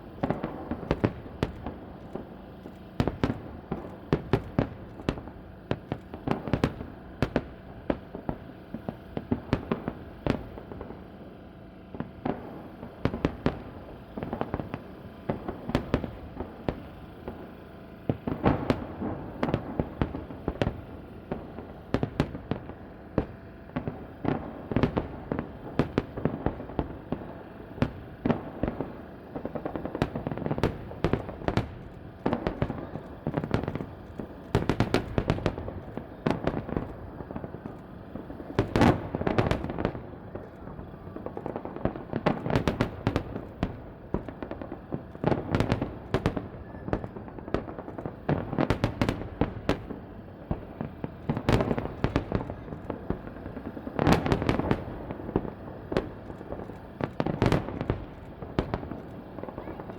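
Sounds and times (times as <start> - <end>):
fireworks exploding: 0.0 - 59.9.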